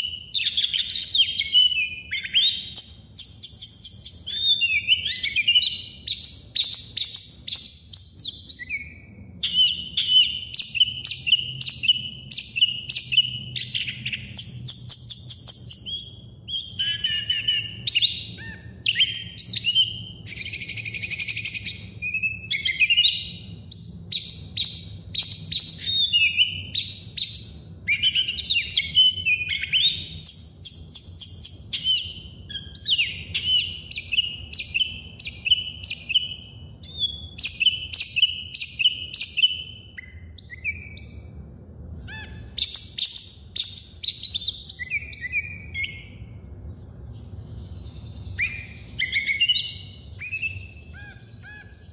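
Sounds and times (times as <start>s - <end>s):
songbirds chirping and singing: 0.0s - 51.9s.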